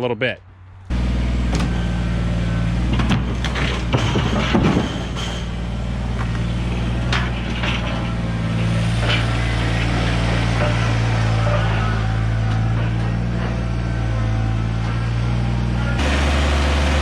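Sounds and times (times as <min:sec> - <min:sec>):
tractor diesel engine running: 0:00.5 - 0:17.0.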